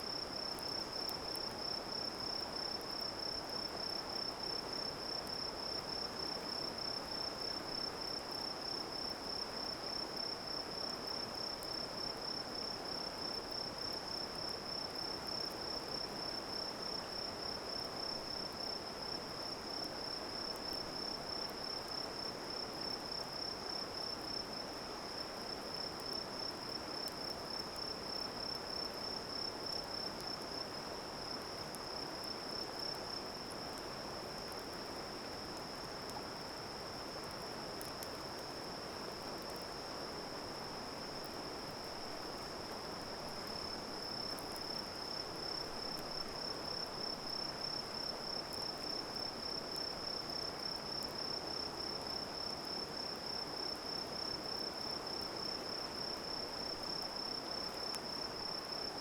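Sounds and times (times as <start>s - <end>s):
crickets chirping trill: 0.0s - 59.0s.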